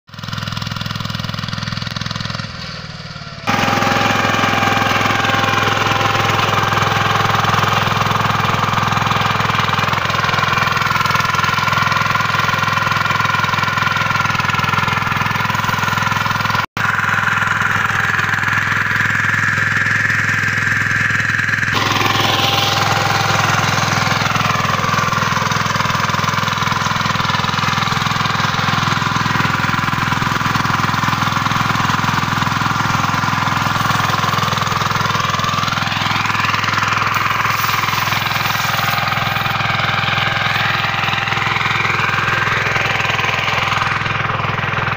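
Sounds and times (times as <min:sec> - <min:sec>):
diesel tiller engine running: 0:00.1 - 0:44.9.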